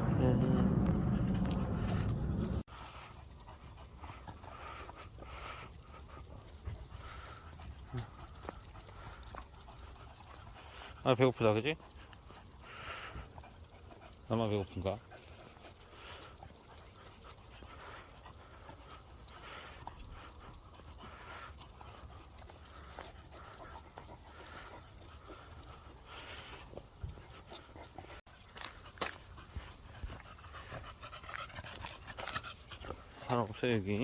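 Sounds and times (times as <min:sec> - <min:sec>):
dogs panting: 0:00.8 - 0:34.0.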